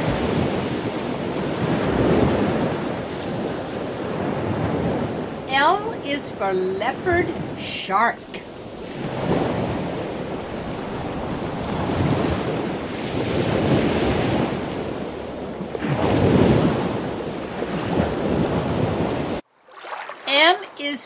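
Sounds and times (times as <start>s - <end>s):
rushing surf-like water: 0.0s - 21.0s.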